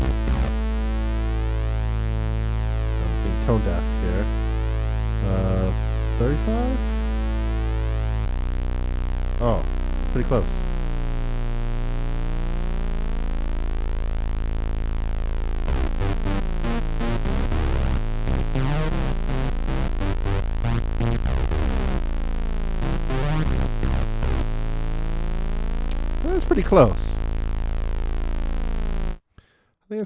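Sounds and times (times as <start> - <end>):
held synthesized bass note: 0.0 - 29.2
synth bass line rhythmic notes: 0.0 - 29.2.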